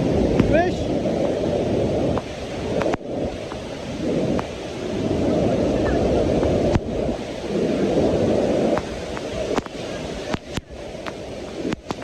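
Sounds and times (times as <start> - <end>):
waterfall roaring: 0.0 - 12.0
wind on microphone: 0.0 - 12.0.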